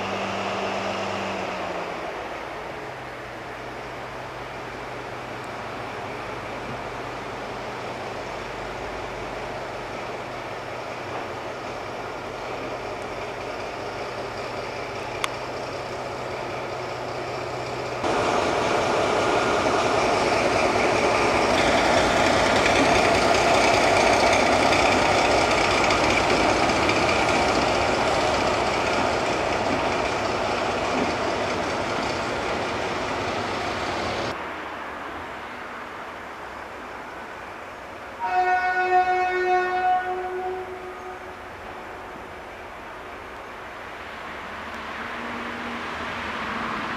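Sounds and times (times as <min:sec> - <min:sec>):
diesel locomotive engine: 0:00.0 - 0:46.9.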